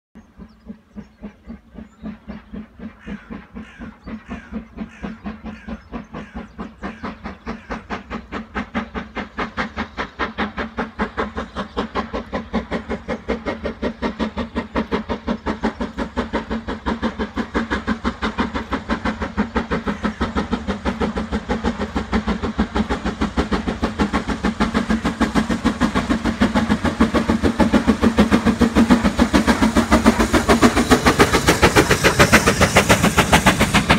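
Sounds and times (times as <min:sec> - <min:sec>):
steam locomotive chuffing: 0:00.2 - 0:33.9.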